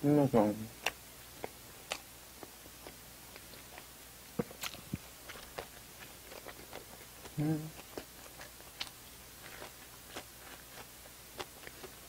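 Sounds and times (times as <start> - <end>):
person chewing a sandwich: 0.8 - 12.0.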